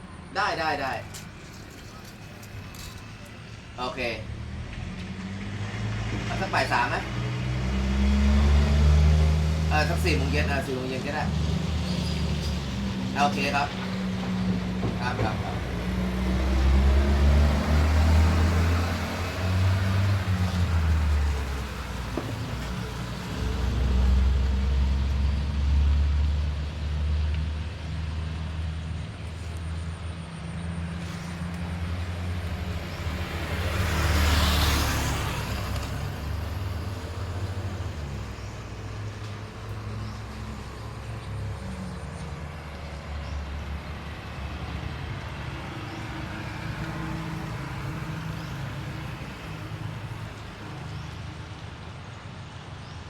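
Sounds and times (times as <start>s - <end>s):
vehicle passing: 0.0s - 51.6s
road traffic rumble: 0.0s - 53.0s.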